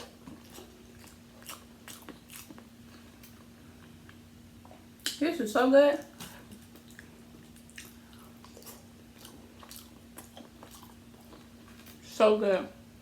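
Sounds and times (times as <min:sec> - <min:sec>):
wet chewing: 0:00.0 - 0:05.2, 0:06.0 - 0:12.0
low steady hum: 0:00.0 - 0:13.0.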